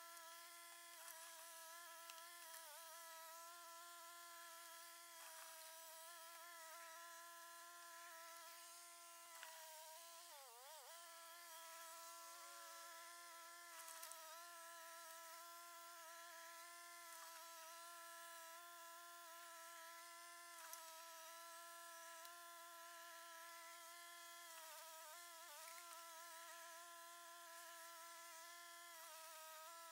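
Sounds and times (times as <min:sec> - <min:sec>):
faint ticks: 0:00.0 - 0:29.9.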